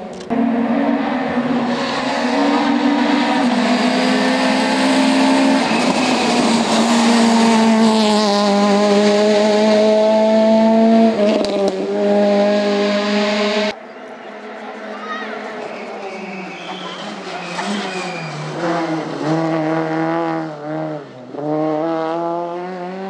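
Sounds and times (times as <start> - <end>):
rally car engine revving: 0.3 - 23.0.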